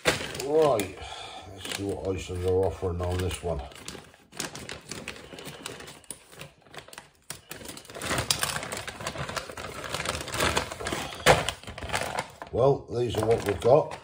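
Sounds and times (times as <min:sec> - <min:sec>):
scissors snipping plastic bag: 0:00.0 - 0:00.9, 0:01.6 - 0:12.4
plastic packaging crinkling: 0:00.0 - 0:14.0.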